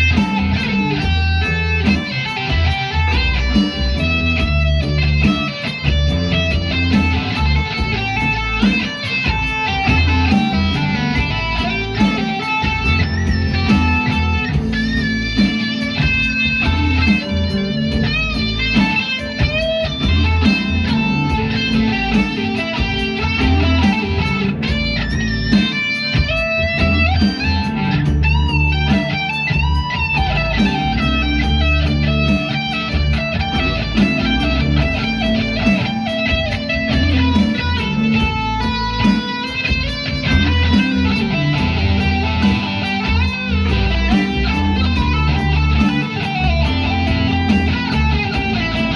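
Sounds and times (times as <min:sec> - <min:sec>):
electric guitar lines: 0:00.0 - 0:48.9
steady bass beat: 0:00.0 - 0:48.9.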